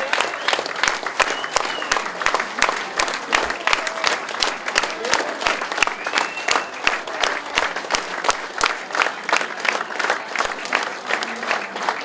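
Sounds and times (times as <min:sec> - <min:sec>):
individual claps: 0:00.0 - 0:12.0
small crowd applauding: 0:00.0 - 0:12.0.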